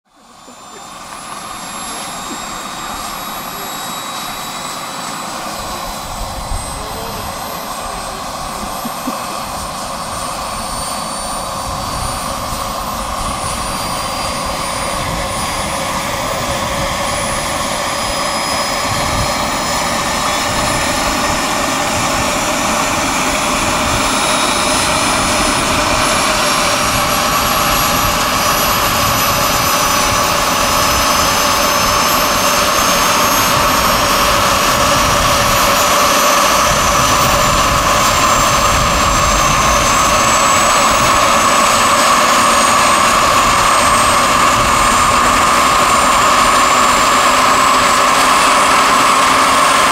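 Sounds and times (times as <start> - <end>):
model turbine engine whine: 0.0 - 49.9.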